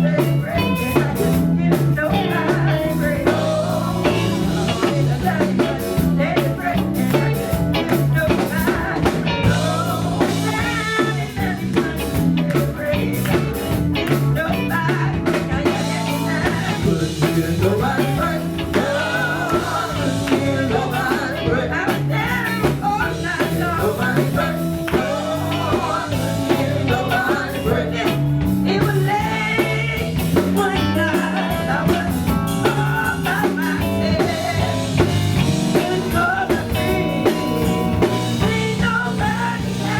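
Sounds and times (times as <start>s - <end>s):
live band with singing: 0.0s - 39.9s.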